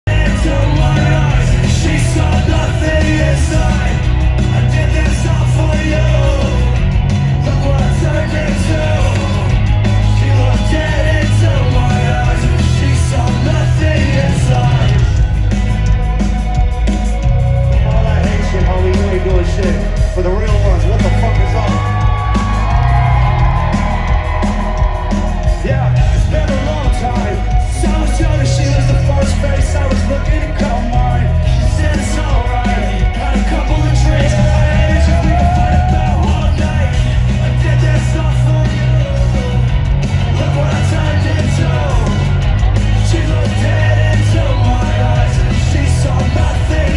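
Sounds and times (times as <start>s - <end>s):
person singing: 0.0s - 15.3s, 21.0s - 46.9s
heavy steady bass: 0.0s - 46.9s
live rock music over pa: 0.0s - 46.9s.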